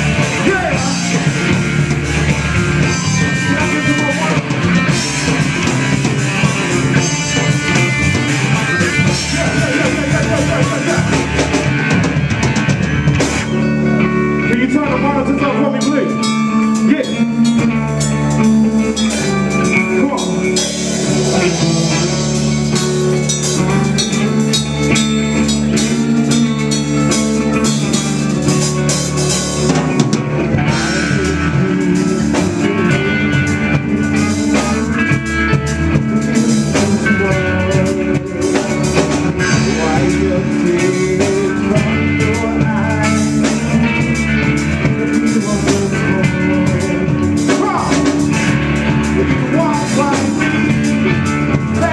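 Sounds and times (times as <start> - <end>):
drum kit: 0.0 - 51.9
electric guitars: 0.0 - 51.9.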